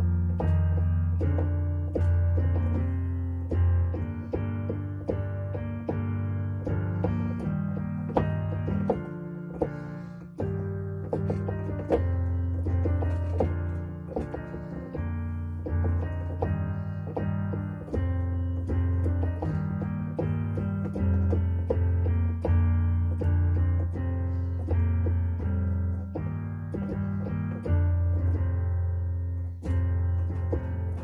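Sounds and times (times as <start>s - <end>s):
digital piano playing a hymn: 0.0s - 31.0s.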